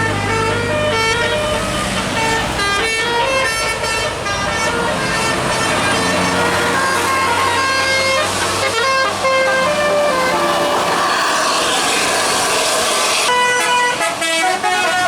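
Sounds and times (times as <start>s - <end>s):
multi-tone bus horn melody: 0.0s - 12.0s, 13.1s - 15.0s
bus engine: 0.0s - 15.0s.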